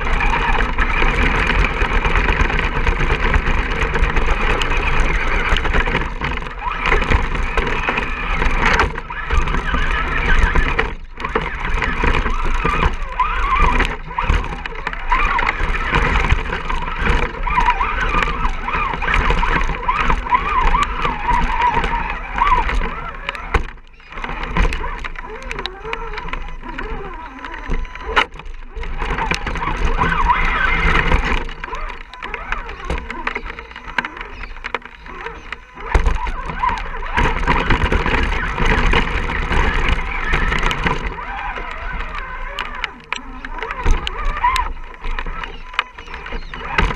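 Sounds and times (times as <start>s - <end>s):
electric motor whining: 0.0s - 46.9s.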